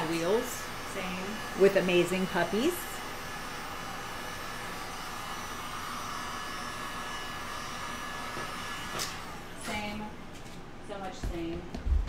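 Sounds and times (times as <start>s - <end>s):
heat gun blowing: 0.0s - 10.1s.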